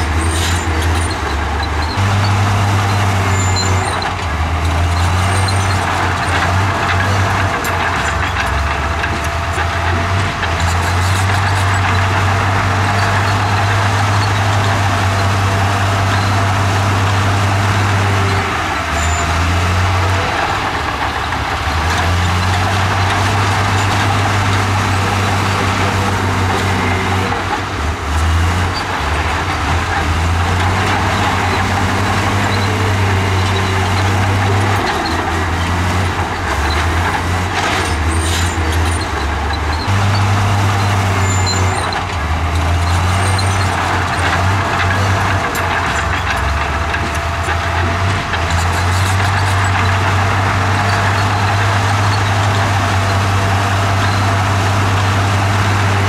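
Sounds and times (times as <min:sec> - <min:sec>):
bulldozer diesel engine droning: 0:00.0 - 0:56.0
rough noise: 0:00.0 - 0:56.0.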